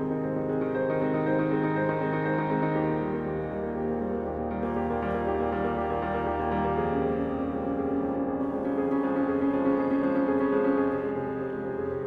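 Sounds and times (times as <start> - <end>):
sustained instrumental chords: 0.0 - 12.0.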